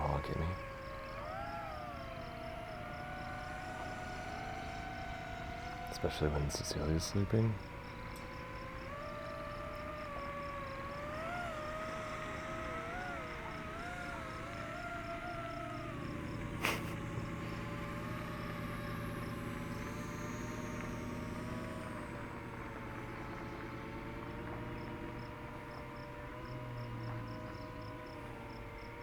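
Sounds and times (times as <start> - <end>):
drone motors whining: 0.0 - 29.0
insects ticking: 0.0 - 29.0
steady low hum: 0.0 - 29.0.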